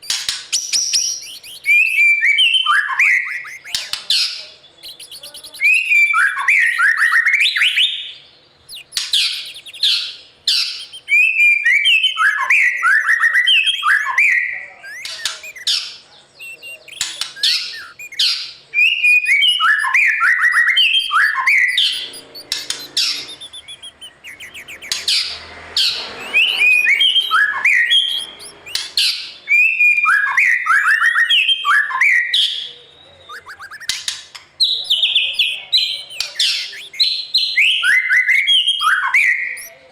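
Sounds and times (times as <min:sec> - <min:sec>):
bird singing whistled phrases: 0:00.0 - 0:04.1, 0:04.8 - 0:39.8.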